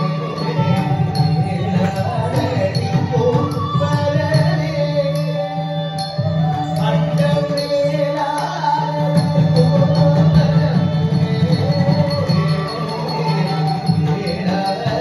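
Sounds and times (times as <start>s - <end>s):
person singing devotional song: 0.0s - 5.8s, 6.6s - 15.0s
ankle bells jingling: 0.0s - 15.0s.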